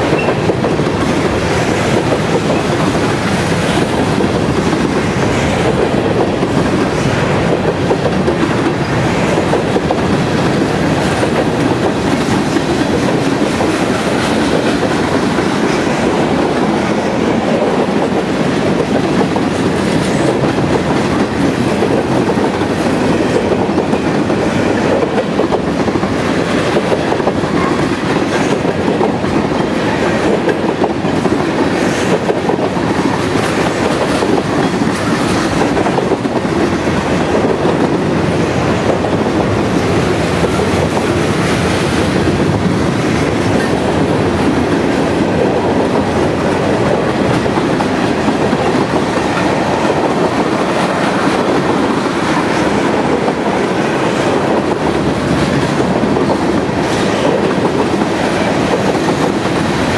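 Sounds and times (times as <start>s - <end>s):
freight train wheels rumbling: 0.0s - 59.9s
train wheel clicks: 0.0s - 59.9s.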